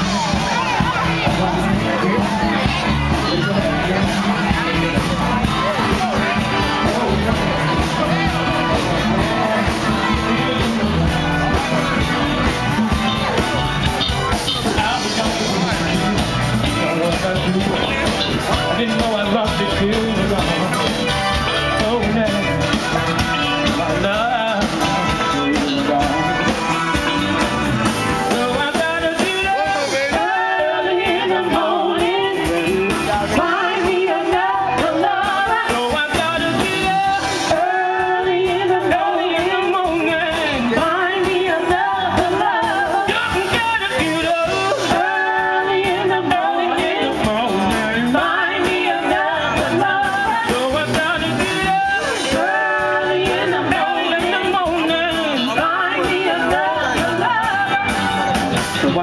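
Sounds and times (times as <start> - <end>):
live band playing: 0.0 - 59.0
people singing: 0.0 - 59.0.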